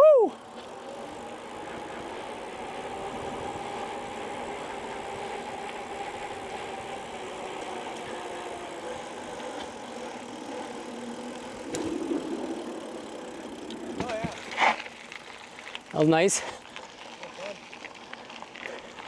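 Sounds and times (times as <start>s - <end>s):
bicycle rolling on pavement: 0.0s - 19.0s.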